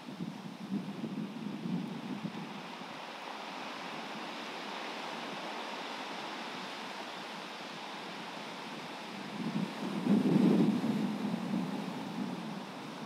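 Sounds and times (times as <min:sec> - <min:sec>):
ocean surf washing: 0:02.0 - 0:13.0.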